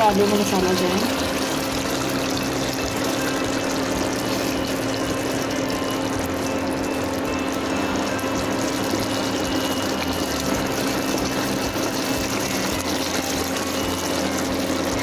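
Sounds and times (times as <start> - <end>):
low mechanical hum: 0.0 - 15.0
curry simmering in a pan: 0.2 - 15.0.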